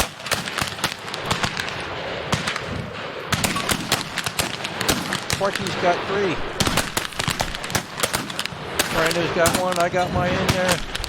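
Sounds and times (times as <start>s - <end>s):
rifle gunshots: 0.0s - 11.0s.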